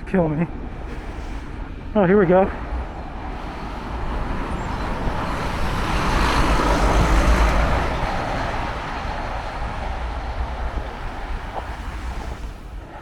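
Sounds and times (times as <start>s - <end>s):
vehicle passing by: 2.6s - 13.0s.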